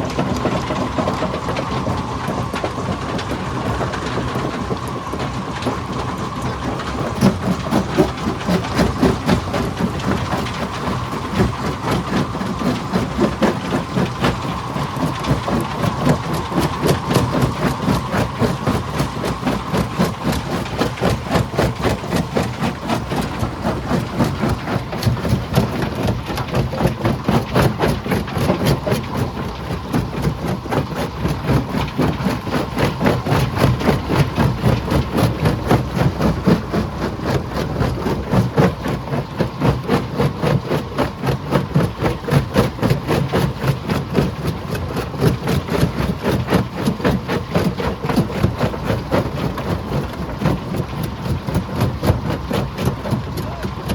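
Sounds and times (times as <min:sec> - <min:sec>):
low engine drone: 0:00.0 - 0:53.9.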